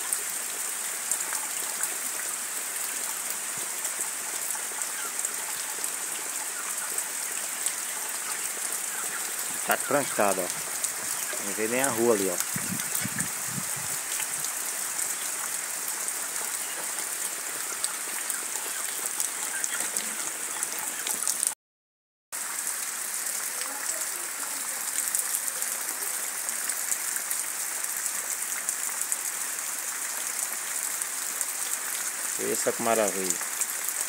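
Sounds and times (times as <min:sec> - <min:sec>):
heavy rain falling: 0:00.0 - 0:21.6, 0:22.4 - 0:34.0.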